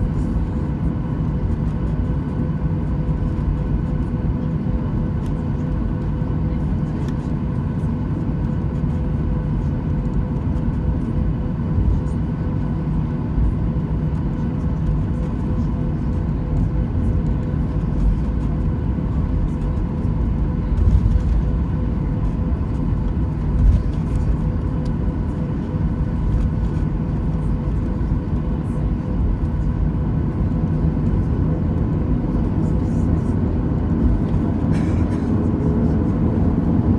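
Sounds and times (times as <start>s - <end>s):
aircraft cabin engine rumble: 0.0s - 36.9s.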